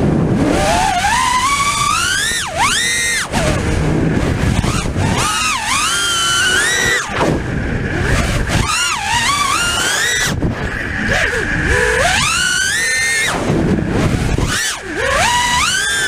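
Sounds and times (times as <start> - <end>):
drone motors whining: 0.0 - 16.0
wind rushing over microphone: 0.0 - 16.0.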